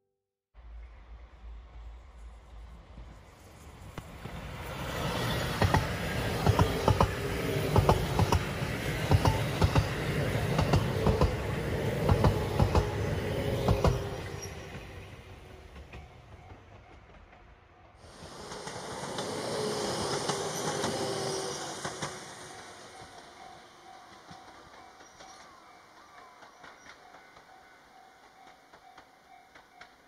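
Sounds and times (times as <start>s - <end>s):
electric train rushing past: 0.6s - 30.0s.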